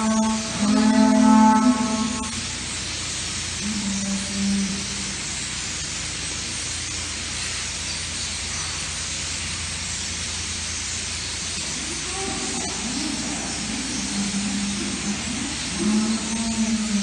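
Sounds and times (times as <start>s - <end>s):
low hum: 0.0s - 17.0s
starlings chattering: 0.0s - 17.0s.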